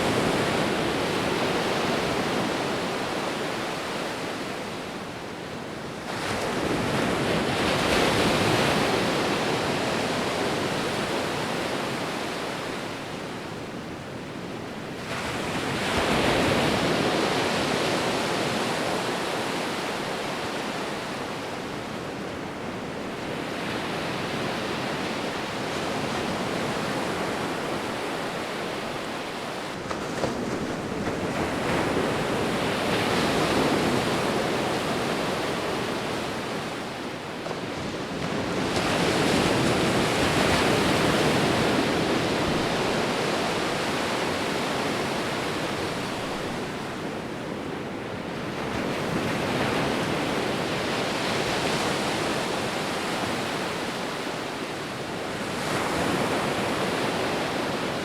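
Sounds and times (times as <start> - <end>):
sea waves surging onto shore: 0.0 - 58.0.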